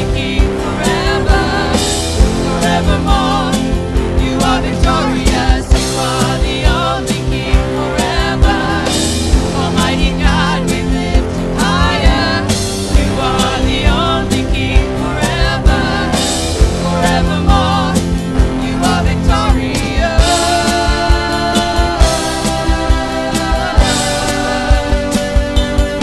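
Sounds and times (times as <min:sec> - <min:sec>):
person singing: 0:00.0 - 0:26.0
worship band playing: 0:00.0 - 0:26.0.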